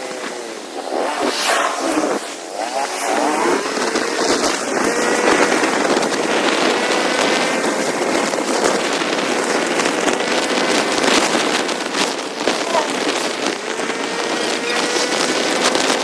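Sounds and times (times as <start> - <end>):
motorcycle engine: 0.0 - 16.0
rushing wind and road noise: 0.0 - 16.0.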